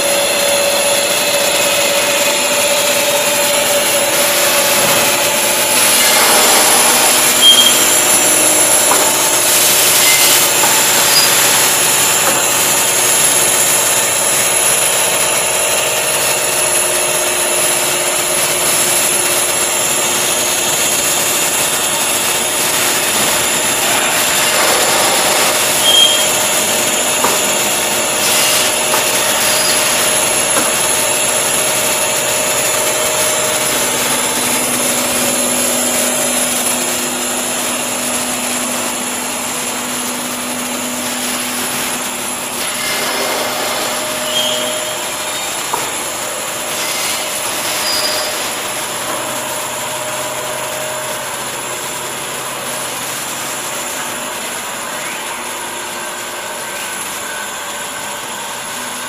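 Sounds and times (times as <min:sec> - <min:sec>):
machine hiss and hum: 0:00.0 - 0:59.0.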